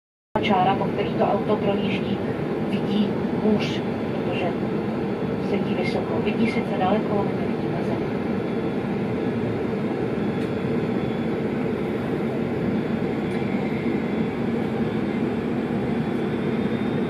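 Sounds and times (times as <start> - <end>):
faint high engine whine: 0.4 - 17.0
low jet engine rumble: 0.4 - 17.0.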